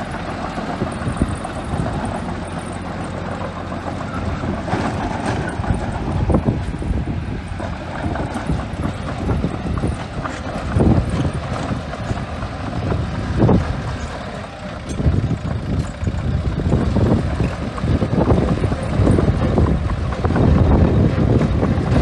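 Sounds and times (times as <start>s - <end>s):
bulldozer diesel engine: 0.0s - 22.0s
wind rumbling on microphone: 0.0s - 22.0s.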